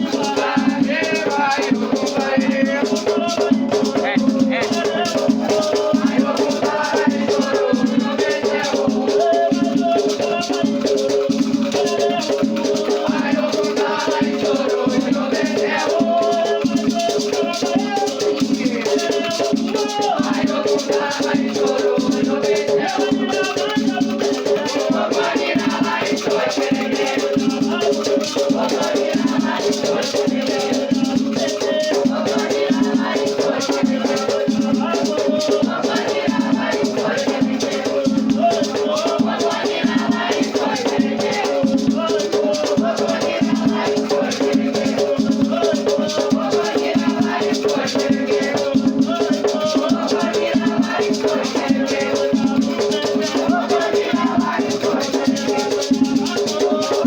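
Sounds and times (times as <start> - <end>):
drums: 0.0 - 57.0
people singing: 0.0 - 57.0
rattles shaken in fast beat: 0.0 - 57.0.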